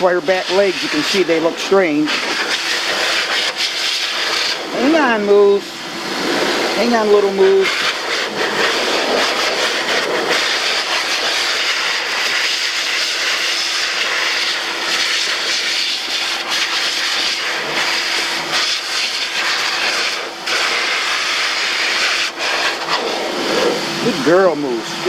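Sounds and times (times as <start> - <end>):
pet dryer blowing air: 0.0 - 25.0.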